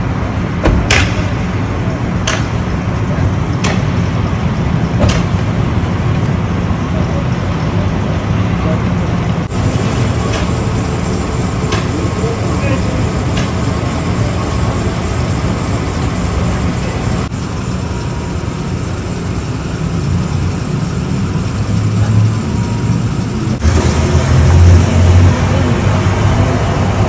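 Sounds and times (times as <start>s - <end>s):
city street noise: 0.0s - 27.0s
vehicle engine rumbling: 0.0s - 27.0s.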